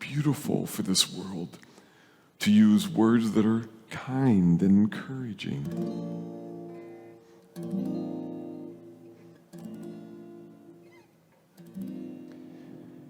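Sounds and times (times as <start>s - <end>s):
acoustic guitar strumming chords: 2.4s - 13.0s.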